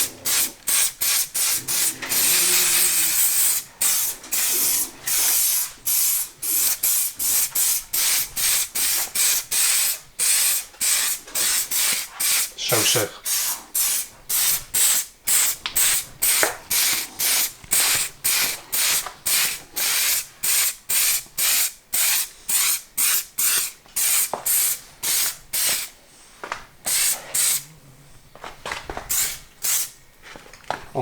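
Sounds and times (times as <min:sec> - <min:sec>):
spray can hissing squirts: 0:00.2 - 0:25.9, 0:26.9 - 0:27.6, 0:29.1 - 0:29.9.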